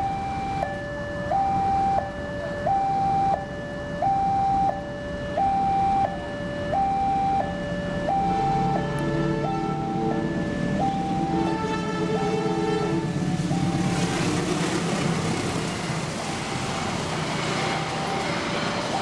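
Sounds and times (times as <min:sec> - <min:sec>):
level crossing two-tone alarm: 0:00.0 - 0:14.1, 0:15.7 - 0:19.0.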